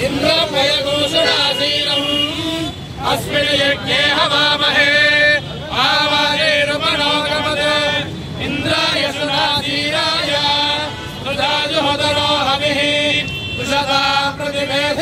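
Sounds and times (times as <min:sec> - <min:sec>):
men chanting in unison: 0:00.0 - 0:15.0.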